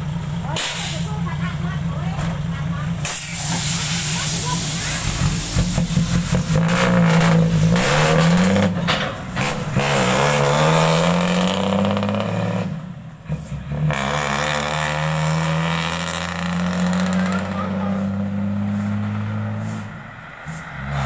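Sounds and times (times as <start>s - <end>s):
combine harvester engine revving: 0.0s - 21.0s.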